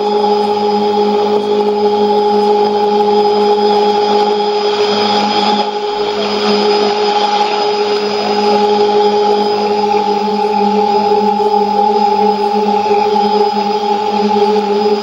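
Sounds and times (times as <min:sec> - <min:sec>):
steady radio test tones: 0:00.0 - 0:15.0.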